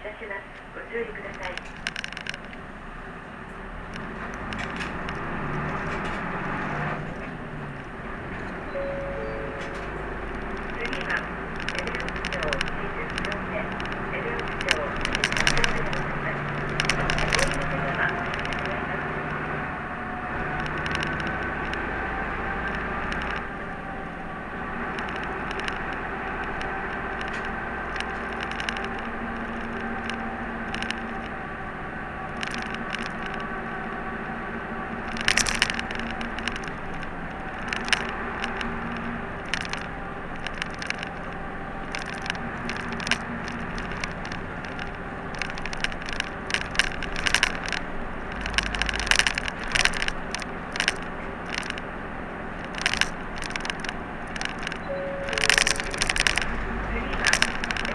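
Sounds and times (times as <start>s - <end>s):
bus engine running: 0.0s - 57.9s
bus interior clicks and rattles: 0.0s - 57.9s
tyre and road noise: 0.0s - 57.9s.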